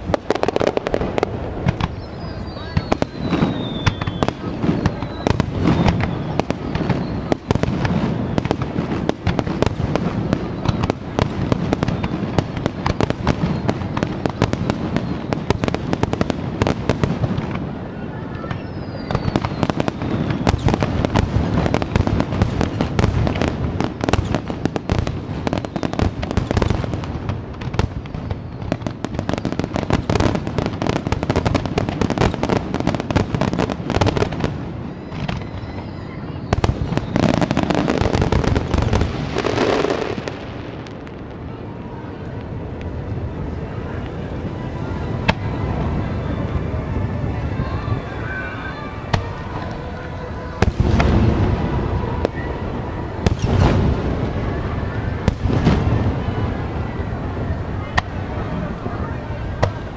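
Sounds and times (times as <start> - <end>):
falling firework whistle: 0.0 - 59.9
fireworks crackling: 0.0 - 59.9.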